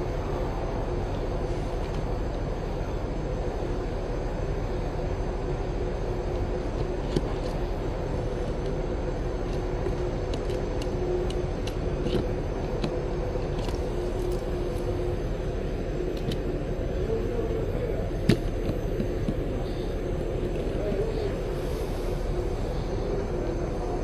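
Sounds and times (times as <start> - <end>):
ventilation fan rush and hum: 0.0 - 24.0.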